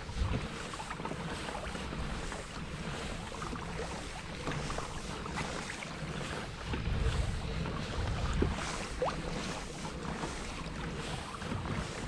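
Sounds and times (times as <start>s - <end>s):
small waves lapping hull: 0.0s - 12.0s
wind buffeting microphone: 0.0s - 12.0s.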